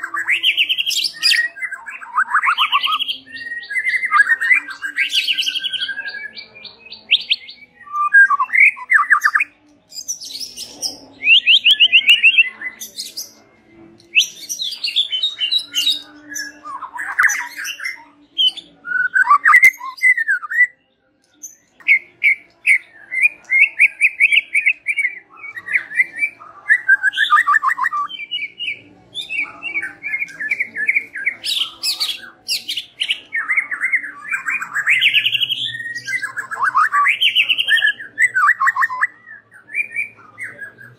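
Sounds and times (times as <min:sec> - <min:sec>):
bird singing whistles and trills: 0:00.0 - 0:13.4, 0:14.0 - 0:40.9.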